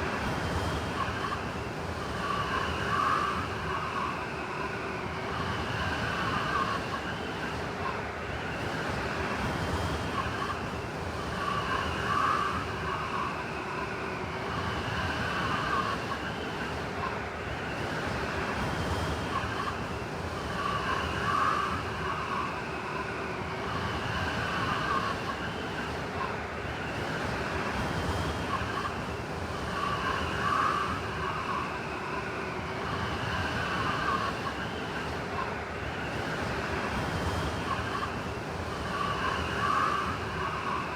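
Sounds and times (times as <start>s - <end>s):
blizzard wind howling: 0.0s - 40.9s.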